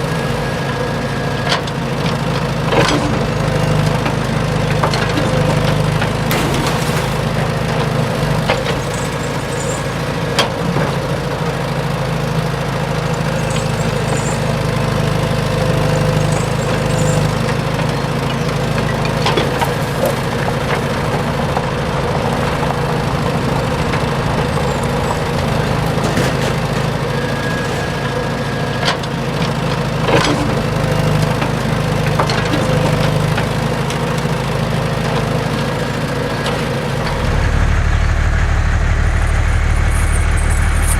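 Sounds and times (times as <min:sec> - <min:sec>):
small engine running steadily: 0:00.0 - 0:40.9.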